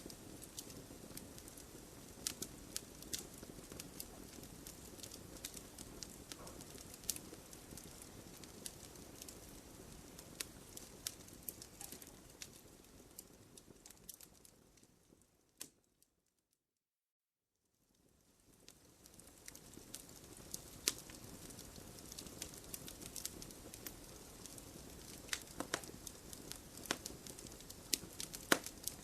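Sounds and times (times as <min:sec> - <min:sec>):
campfire crackling and popping: 0:00.0 - 0:15.9, 0:18.0 - 0:29.0.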